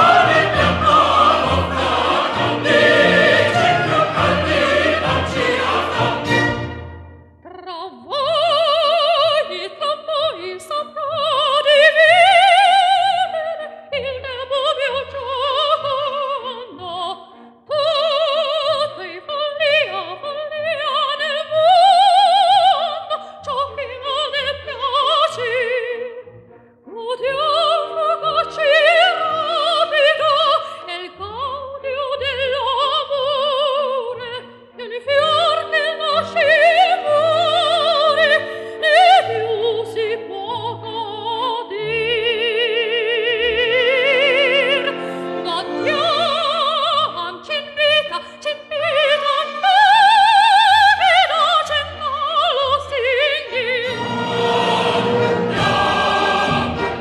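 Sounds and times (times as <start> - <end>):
opera singer with wide vibrato: 0.0 - 6.7, 7.4 - 26.3, 26.9 - 57.0
orchestra: 0.0 - 57.0.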